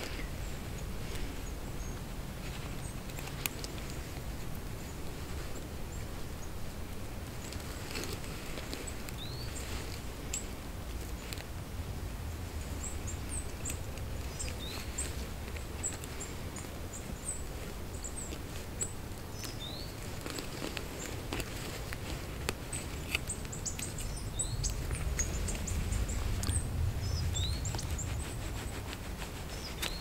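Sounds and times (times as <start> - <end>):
low outdoor rumble: 0.0 - 30.0
small birds chirping: 0.0 - 30.0
cord clicks and rustles: 2.3 - 5.6, 7.0 - 11.6, 13.1 - 30.0.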